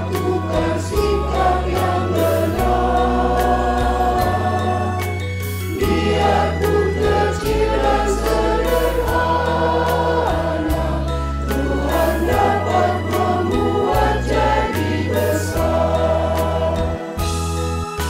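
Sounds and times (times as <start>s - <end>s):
mixed choir singing in harmony: 0.0s - 17.4s.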